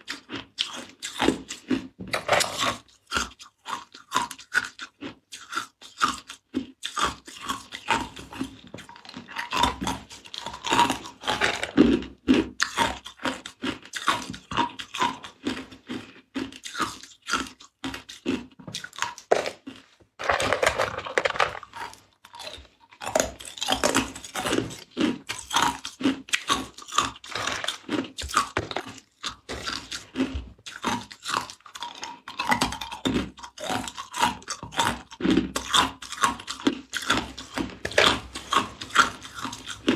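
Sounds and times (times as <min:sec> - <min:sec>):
ice cubes being chewed: 0:00.0 - 0:39.9
ice cubes stirred in plastic box: 0:00.1 - 0:06.0, 0:07.0 - 0:15.0, 0:18.2 - 0:39.9.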